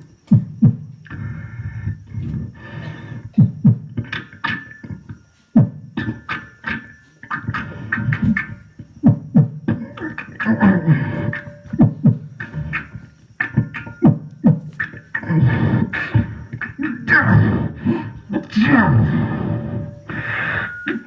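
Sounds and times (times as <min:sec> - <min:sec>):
person beatboxing: 0:02.1 - 0:21.0.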